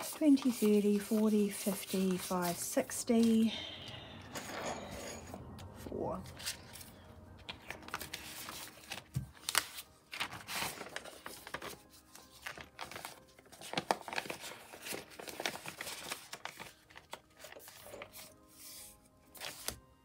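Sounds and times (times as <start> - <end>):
paper and plastic rustling: 0.0 - 3.5, 6.3 - 19.8.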